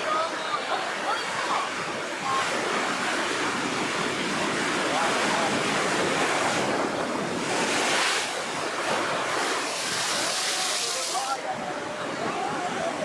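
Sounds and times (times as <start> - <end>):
waves breaking in heavy surf: 0.0 - 13.0.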